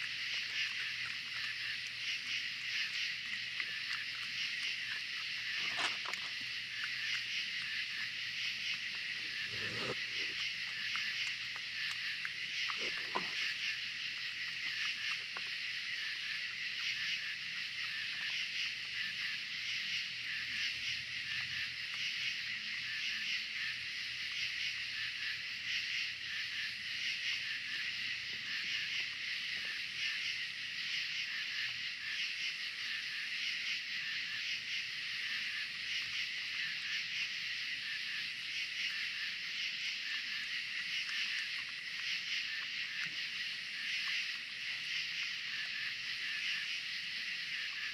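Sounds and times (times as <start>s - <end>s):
night insects chorus: 0.0s - 47.9s.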